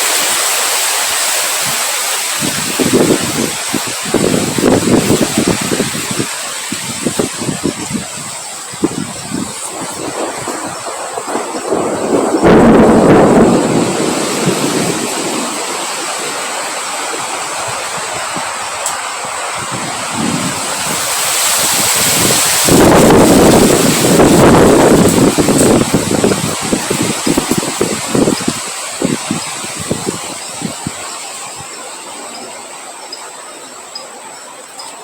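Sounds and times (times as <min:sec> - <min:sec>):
wind buffeting microphone: 0:01.1 - 0:33.0.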